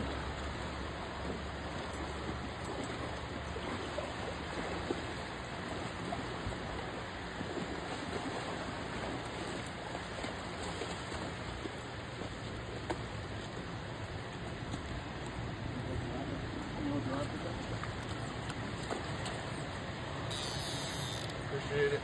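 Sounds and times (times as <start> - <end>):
flowing creek water: 0.0 - 22.0.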